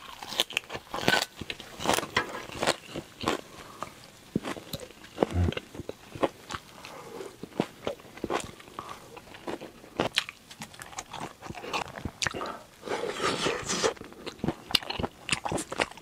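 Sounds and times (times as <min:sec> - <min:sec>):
chewing crisp salad greens: 0:00.0 - 0:16.0.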